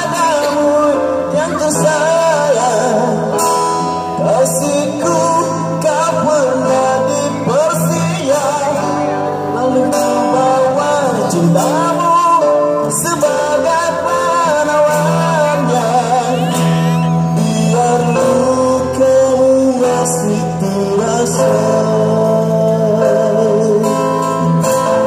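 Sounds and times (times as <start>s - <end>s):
live band playing: 0.0s - 25.0s
man singing into microphone: 0.0s - 25.0s.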